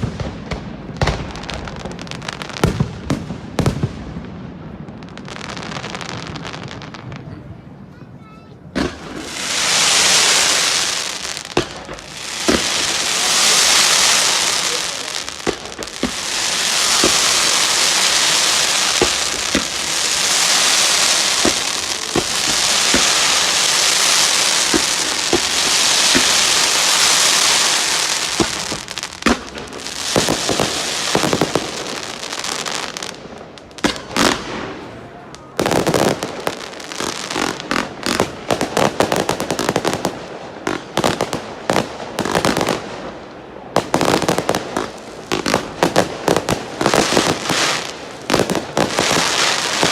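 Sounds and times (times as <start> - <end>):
fireworks crackling bangs: 0.0 - 49.9
fireworks popping: 4.9 - 49.9
fireworks hissing: 8.8 - 43.0, 43.8 - 49.9.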